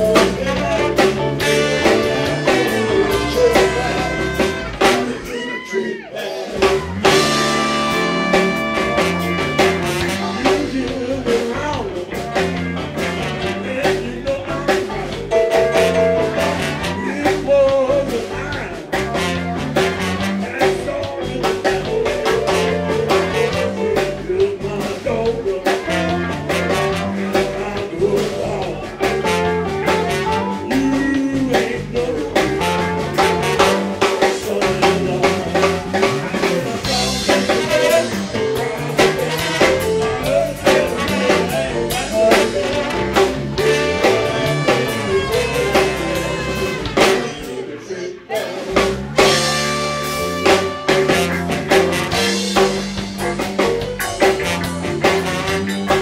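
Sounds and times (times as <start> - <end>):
drum kit beat: 0.0 - 5.7, 6.4 - 56.0
live blues band playing: 0.0 - 56.0.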